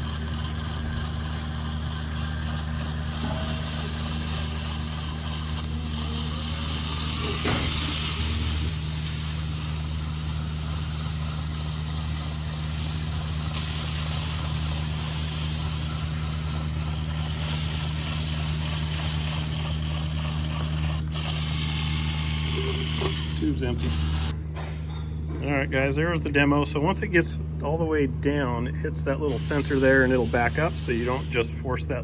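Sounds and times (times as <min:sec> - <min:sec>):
electric caulking gun motor: 0:00.0 - 0:24.4, 0:29.2 - 0:31.6.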